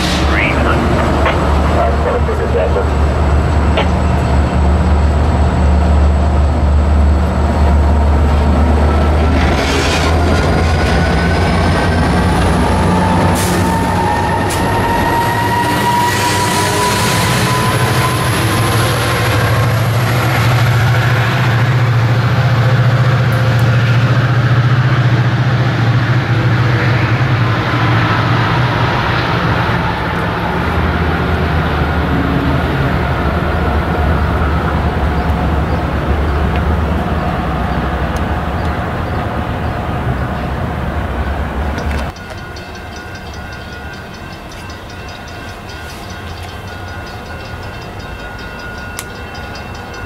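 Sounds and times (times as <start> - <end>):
diesel locomotive engine drone: 0.0 - 50.0
train wheels rolling on rails: 0.0 - 50.0.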